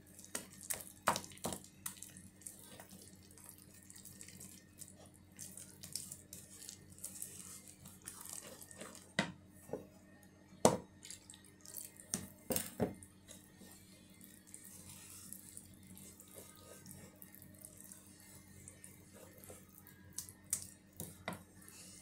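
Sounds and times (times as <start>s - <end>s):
batter slopping and squelching: 0.0s - 9.2s, 10.8s - 22.0s.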